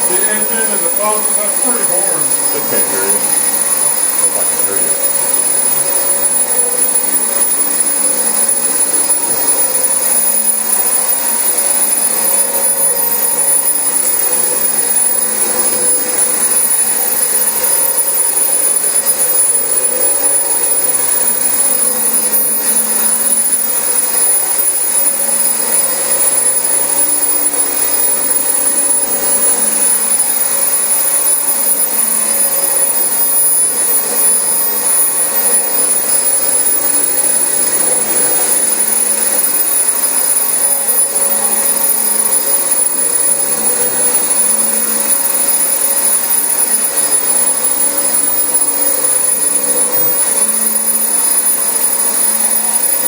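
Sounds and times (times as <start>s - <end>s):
vacuum cleaner running on carpet: 0.0s - 46.1s.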